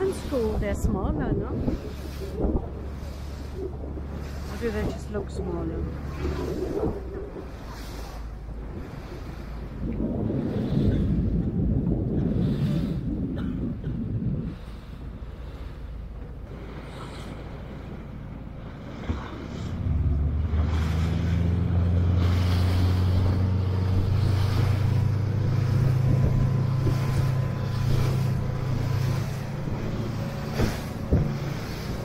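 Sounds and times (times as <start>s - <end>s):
boat engine droning: 0.0s - 32.0s
wind and water rushing: 0.0s - 32.0s.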